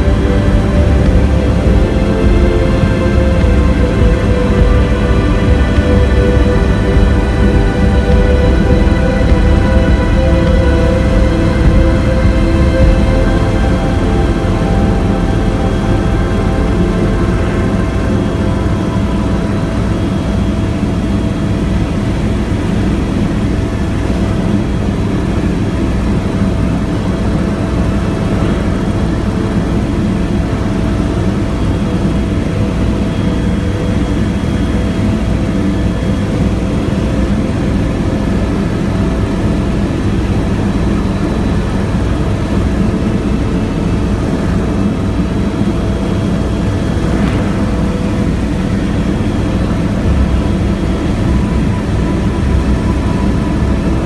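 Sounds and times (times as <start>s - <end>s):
helicopter rotor beat: 0.0s - 54.0s
turbine whine: 0.0s - 54.0s.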